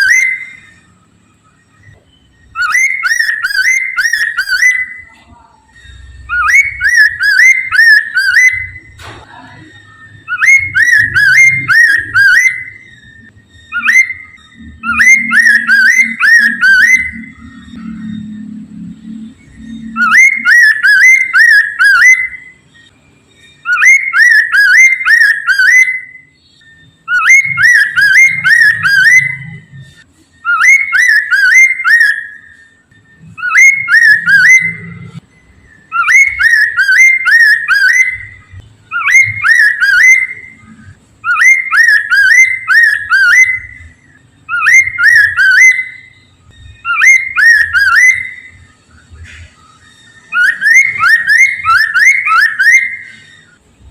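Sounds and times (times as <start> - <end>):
bird singing whistled phrases: 0.0 - 53.6.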